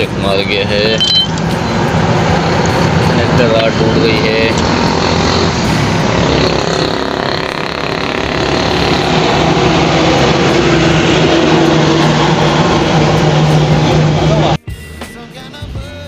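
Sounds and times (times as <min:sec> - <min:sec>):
vehicle engine running: 0:00.0 - 0:14.6.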